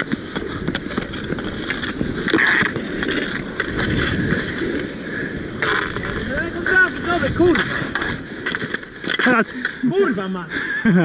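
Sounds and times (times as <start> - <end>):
hockey sticks and puck clacking: 0.0 - 4.7, 5.6 - 10.3
skate wheels rolling: 0.0 - 10.6.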